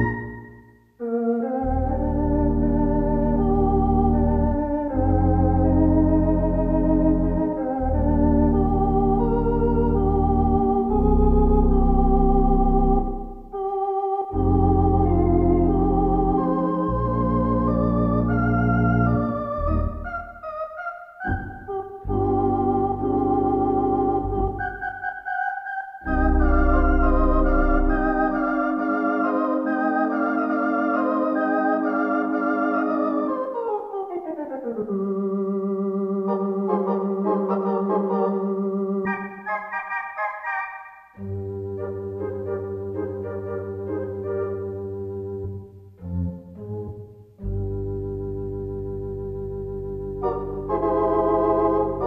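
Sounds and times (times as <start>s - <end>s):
theatre organ playing: 0.0s - 52.0s.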